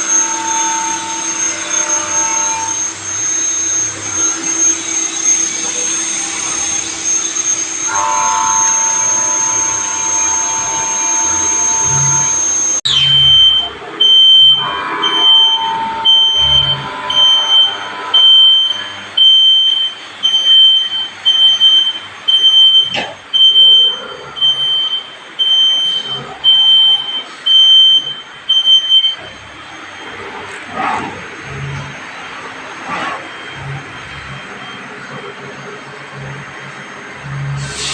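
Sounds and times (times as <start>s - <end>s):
electronic alarm beeps: 0.0s - 37.9s
high machine whine: 0.0s - 37.9s.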